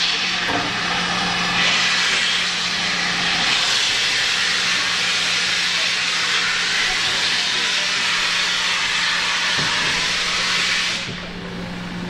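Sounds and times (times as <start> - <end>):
steam hissing: 0.0 - 11.4.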